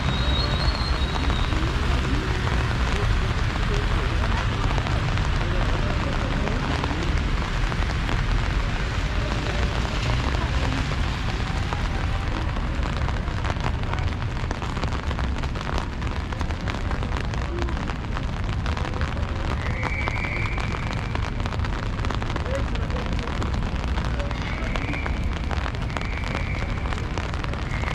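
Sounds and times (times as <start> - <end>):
rain hissing with drop ticks: 0.0 - 27.9.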